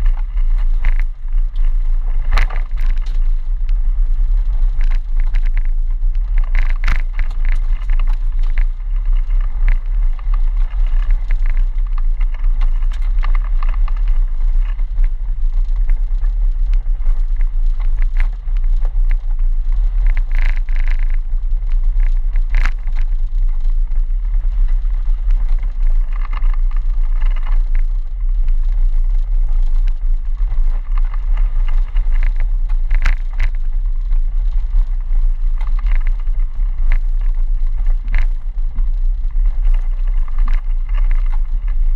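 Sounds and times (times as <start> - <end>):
engine and drivetrain rumble: 0.0 - 41.9.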